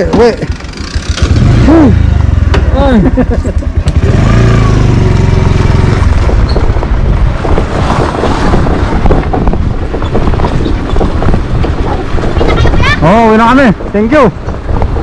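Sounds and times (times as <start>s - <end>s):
motorcycle engine drone: 0.0s - 12.3s
wind buffeting microphone: 0.0s - 15.0s.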